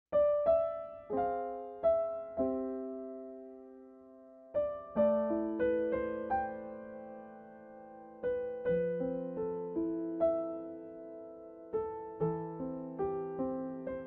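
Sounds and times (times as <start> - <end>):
gentle piano music: 0.1 - 14.0.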